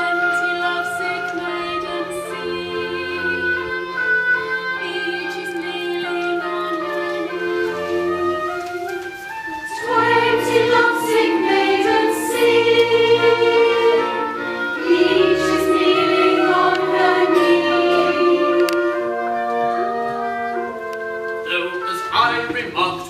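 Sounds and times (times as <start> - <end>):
chorus singing: 0.0 - 20.3
small orchestra playing: 0.0 - 23.0.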